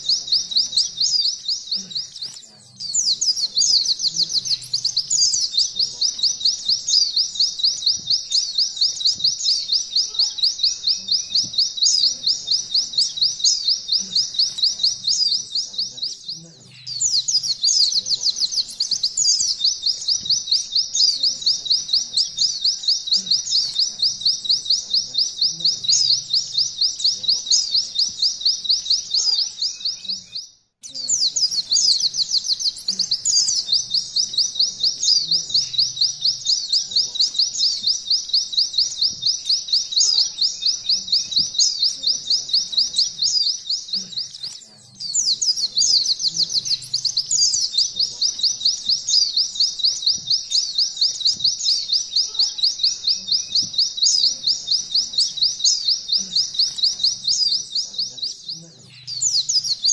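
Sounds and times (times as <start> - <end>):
bird singing fast trill: 0.0 - 59.9.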